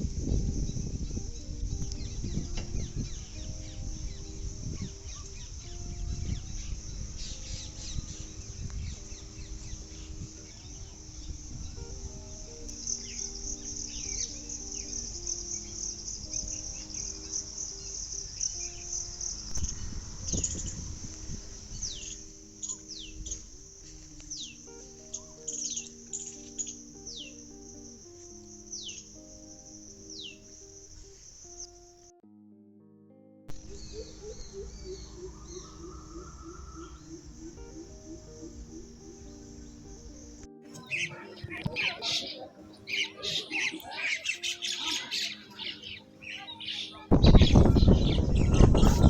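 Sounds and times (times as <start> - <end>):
steady high insect buzz: 0.0 - 32.2, 33.5 - 41.7
soft slow melody: 0.0 - 49.0
small birds chirping: 0.2 - 32.1, 33.5 - 49.0.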